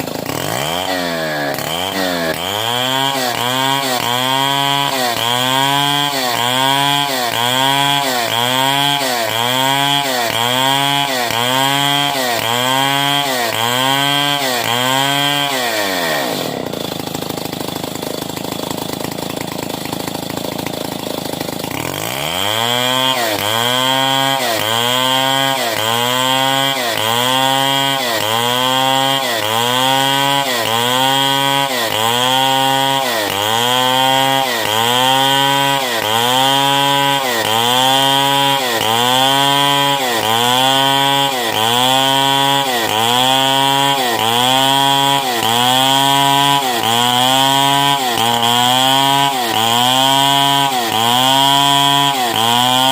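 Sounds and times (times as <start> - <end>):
chainsaw cutting through log: 0.0 - 52.9.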